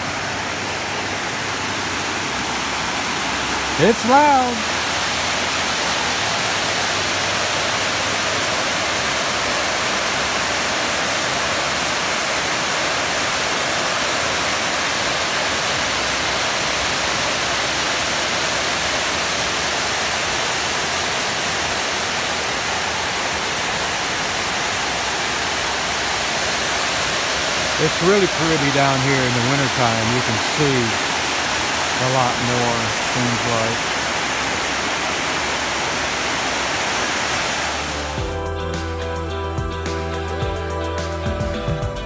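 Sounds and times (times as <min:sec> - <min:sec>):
water rushing over dam: 0:00.0 - 0:38.2.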